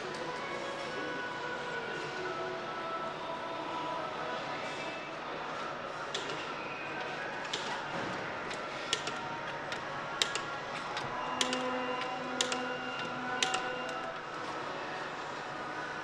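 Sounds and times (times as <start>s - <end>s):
steady factory hum: 0.0s - 16.0s.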